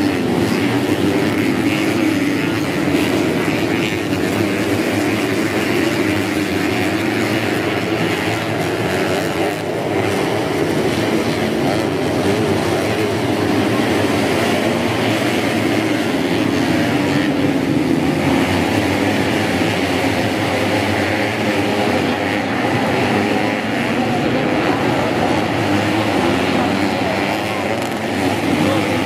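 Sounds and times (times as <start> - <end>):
motorcycle engines racing: 0.0 - 29.0.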